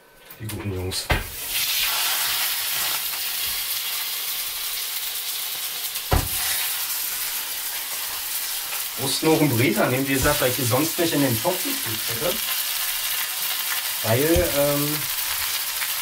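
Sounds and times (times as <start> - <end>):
meat sizzling in oil: 1.2 - 16.0.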